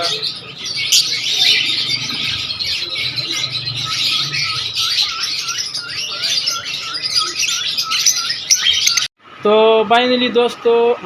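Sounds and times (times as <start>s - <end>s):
many small birds chirping: 0.0s - 11.0s.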